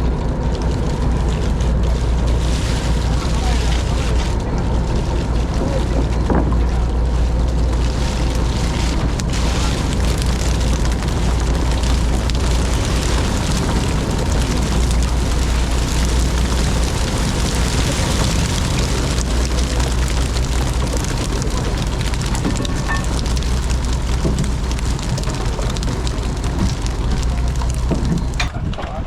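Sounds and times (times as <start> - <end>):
boat engine humming: 0.0 - 28.6
wind and water noise: 0.0 - 29.0.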